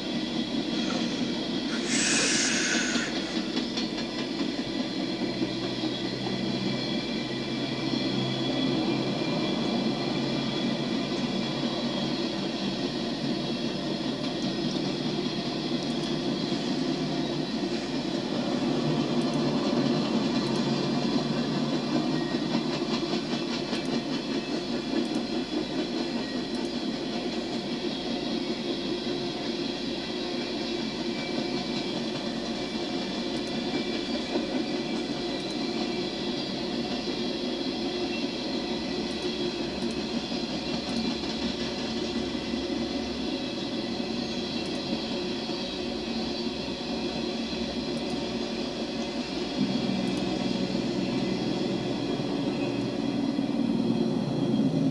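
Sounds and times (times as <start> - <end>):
train cars rolling on track: 0.0 - 54.9.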